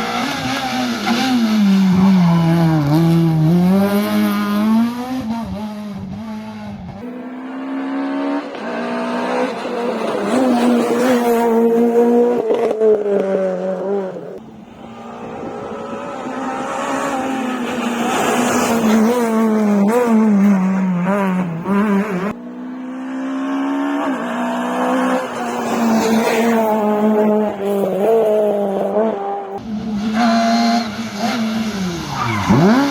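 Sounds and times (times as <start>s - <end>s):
car accelerating and shifting up: 0.0s - 32.9s
rally car engines revving: 0.0s - 32.9s.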